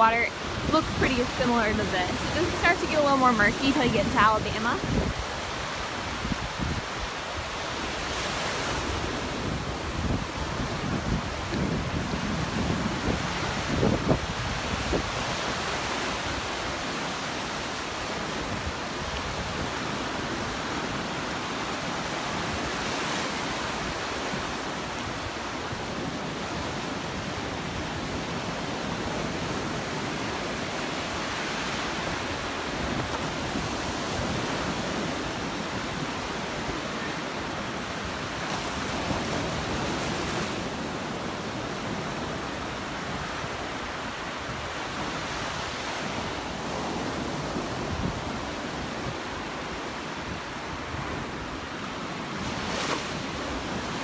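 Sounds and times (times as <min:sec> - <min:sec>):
surf washing onto beach: 0:00.0 - 0:54.0
wind on microphone: 0:00.0 - 0:54.0.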